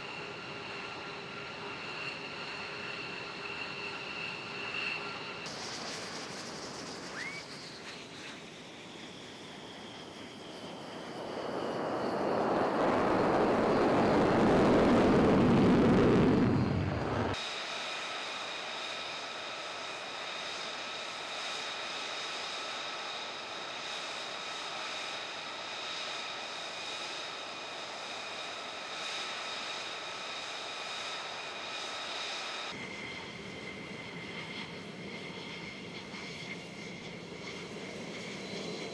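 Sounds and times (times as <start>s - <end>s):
fighter jet engine roaring: 0.0s - 38.9s
jet engines whining: 0.0s - 38.9s.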